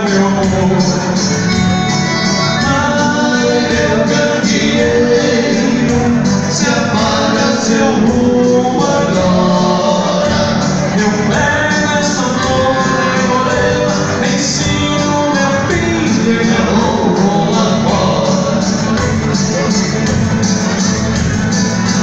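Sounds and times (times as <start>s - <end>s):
person singing: 0.0s - 20.7s
band playing dance music: 0.0s - 22.0s.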